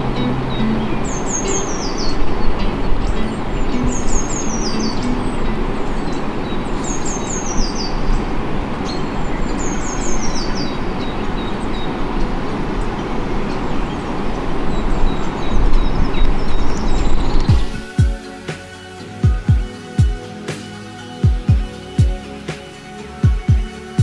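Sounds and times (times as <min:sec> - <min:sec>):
loud steady rushing noise: 0:00.0 - 0:24.0
songbird singing: 0:00.0 - 0:24.0.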